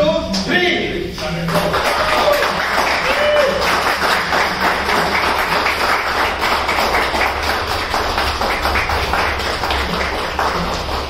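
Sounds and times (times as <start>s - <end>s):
crowd applauding: 1.4s - 11.0s.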